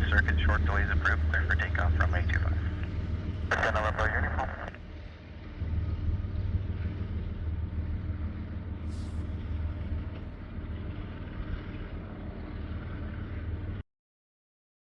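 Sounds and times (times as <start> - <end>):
low vehicle rumble: 0.0 - 13.8.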